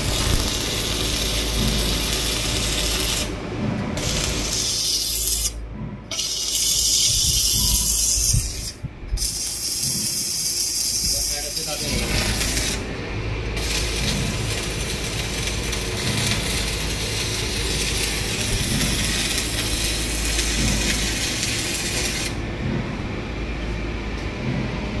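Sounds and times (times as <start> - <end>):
welding arc crackling hiss: 0.0 - 3.4, 4.0 - 12.9, 13.5 - 22.4
welder low hum: 0.0 - 25.0.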